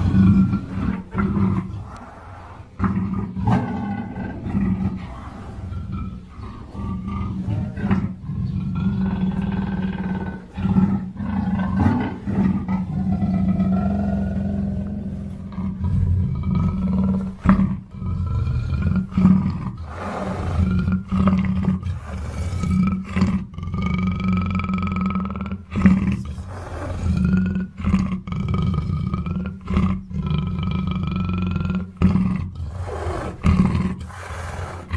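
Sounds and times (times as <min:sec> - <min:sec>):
panther growling and roaring: 0:00.0 - 0:34.9.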